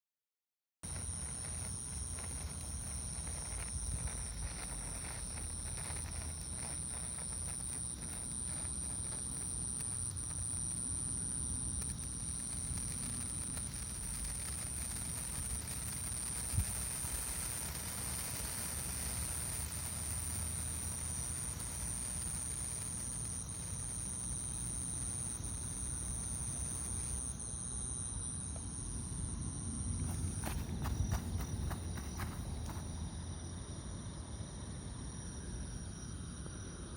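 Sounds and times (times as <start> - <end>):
firework sparks crackling: 0.8 - 27.8, 30.0 - 33.1
insect trill: 0.8 - 36.9.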